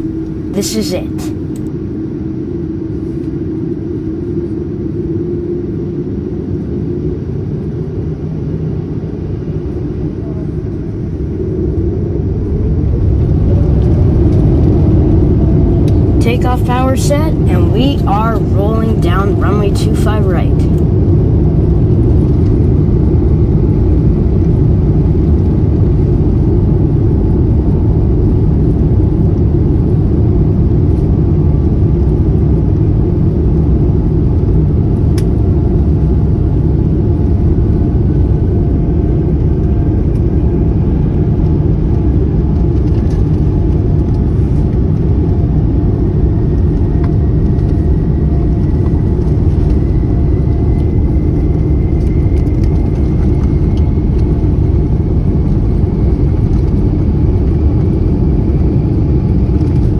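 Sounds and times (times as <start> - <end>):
airplane engines rumbling: 0.0 - 59.9.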